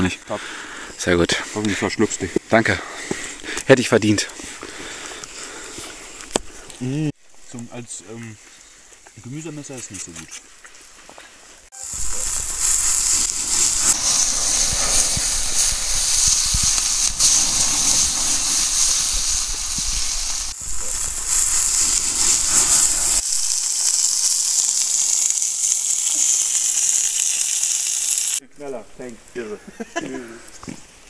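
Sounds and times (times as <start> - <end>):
meat sizzling over campfire: 0.0 - 31.0.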